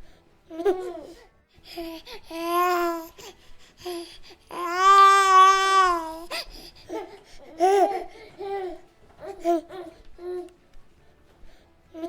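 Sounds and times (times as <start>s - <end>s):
baby cooing and babbling: 0.5s - 10.5s.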